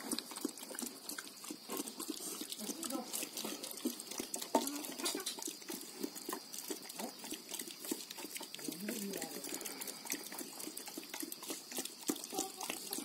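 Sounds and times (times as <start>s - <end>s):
pig calls: 0.0s - 13.0s
pig smacking and slurping feed: 0.0s - 13.0s.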